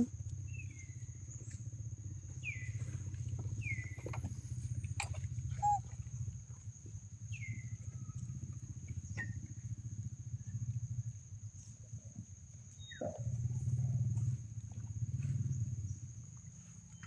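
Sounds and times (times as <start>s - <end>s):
low pulsing rumble: 0.0s - 17.0s.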